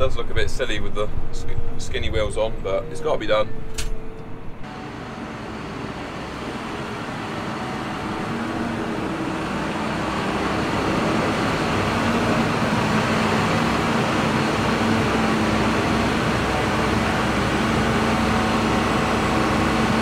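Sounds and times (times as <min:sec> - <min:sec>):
machine humming: 0:02.4 - 0:20.0.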